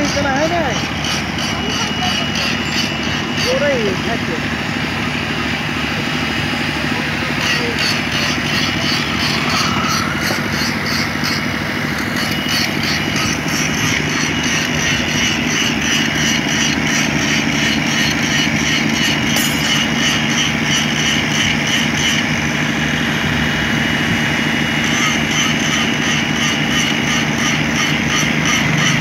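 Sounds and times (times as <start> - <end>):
truck engine running steadily: 0.0 - 29.0.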